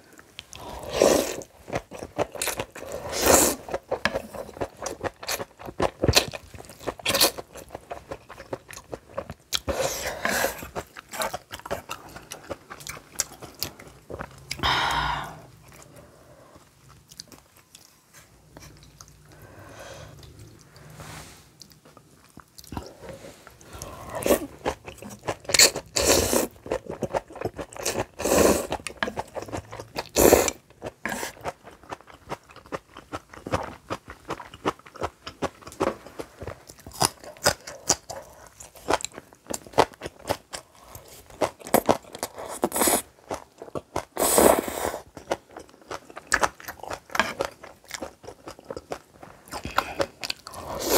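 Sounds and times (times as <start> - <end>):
chewing and crunching food: 0.0 - 14.7, 15.6 - 21.0, 21.6 - 50.9.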